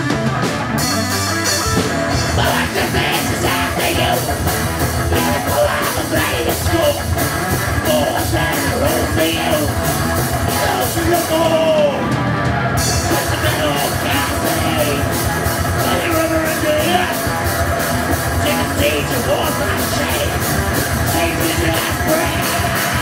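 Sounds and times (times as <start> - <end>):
drums with cymbal strikes: 0.0 - 11.8, 12.8 - 23.0
distorted electric guitars: 0.0 - 23.0
sung vocals: 2.1 - 12.2, 12.8 - 17.3, 18.3 - 23.0.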